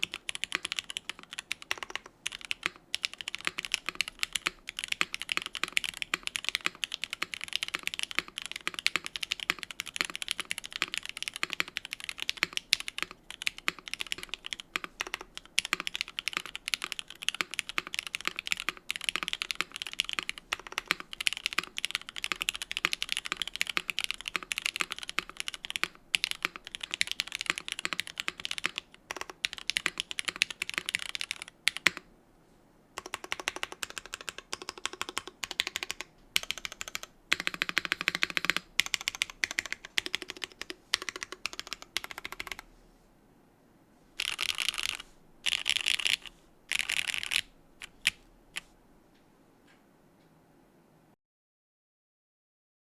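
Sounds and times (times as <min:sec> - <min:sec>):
typing on mechanical keyboard: 0:00.0 - 0:32.0, 0:33.0 - 0:42.6, 0:44.2 - 0:48.2.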